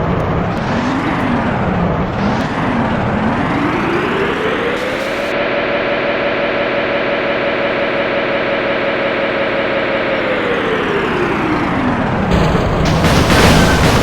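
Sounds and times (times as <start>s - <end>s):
siren wailing: 0.3s - 14.0s.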